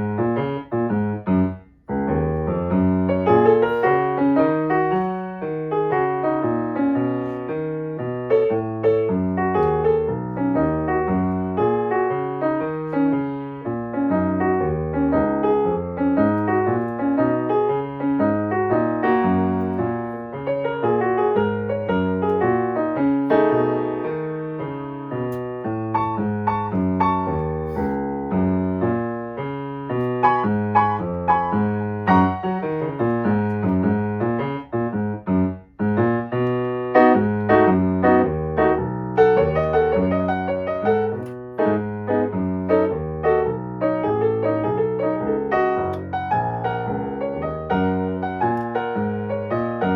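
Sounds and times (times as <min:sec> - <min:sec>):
fast piano passage: 0:00.0 - 0:49.9.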